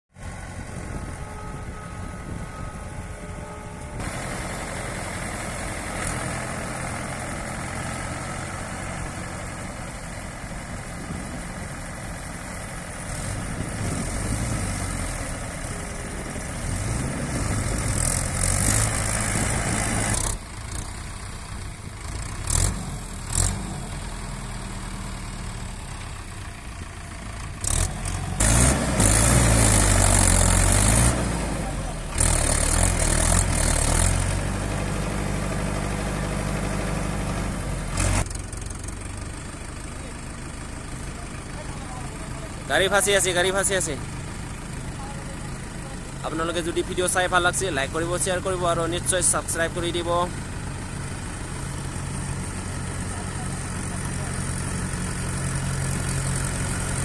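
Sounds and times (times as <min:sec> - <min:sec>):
tractor diesel engine revving: 0:00.2 - 0:57.0.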